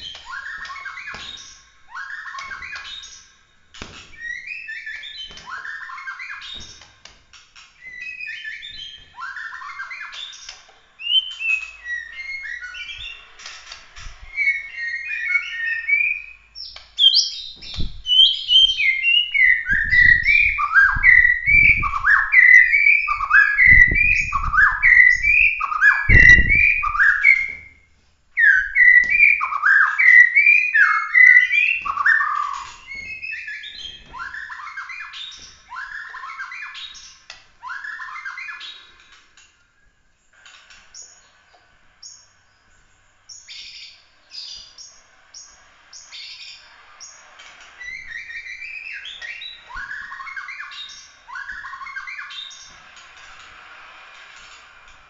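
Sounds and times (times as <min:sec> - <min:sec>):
songbird whistling song: 0:00.0 - 0:07.0, 0:07.8 - 0:40.0, 0:43.3 - 0:47.2, 0:47.8 - 0:52.8.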